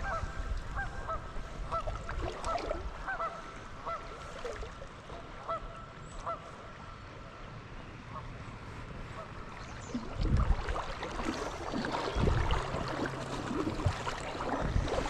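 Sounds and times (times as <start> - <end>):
low rush of background noise: 0.2 - 15.0.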